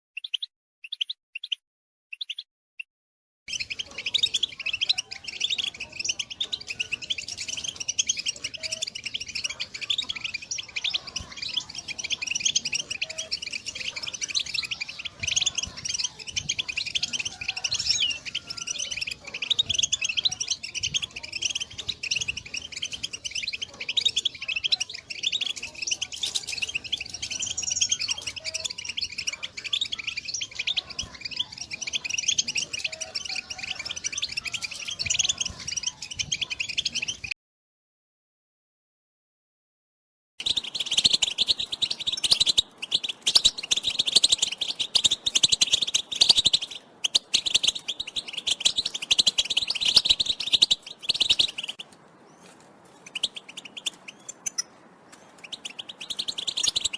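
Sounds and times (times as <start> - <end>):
goldfinch chattering and twittering: 3.5 - 37.3, 40.4 - 56.9.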